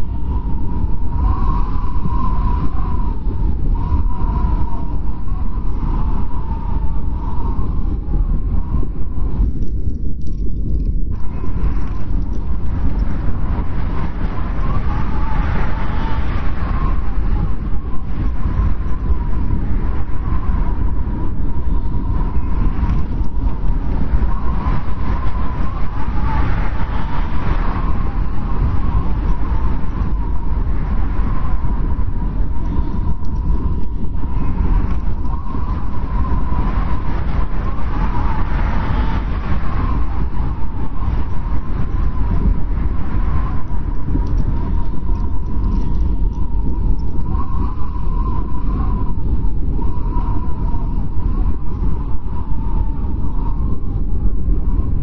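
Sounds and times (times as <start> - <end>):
strong wind rumbling: 0.0 - 55.0
whistling wind howl: 0.0 - 55.0.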